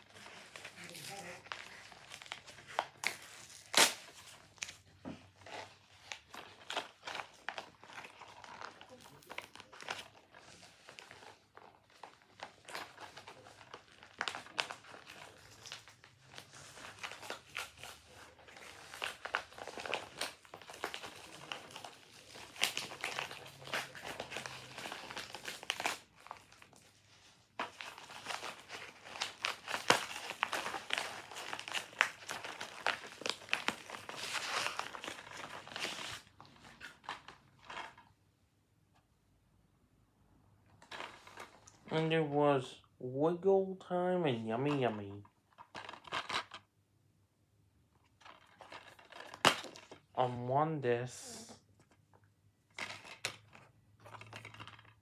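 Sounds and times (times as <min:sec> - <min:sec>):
plastic packaging crinkling and tearing: 0:00.0 - 0:38.1, 0:44.7 - 0:46.7, 0:48.1 - 0:50.2, 0:52.7 - 0:55.0.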